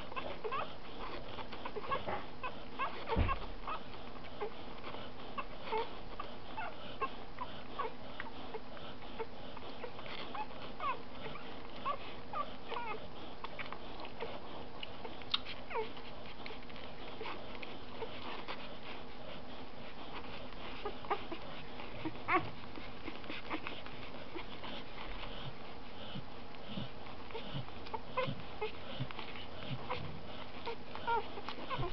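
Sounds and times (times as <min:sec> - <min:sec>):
puppies squeaking and whimpering: 0:00.0 - 0:31.9.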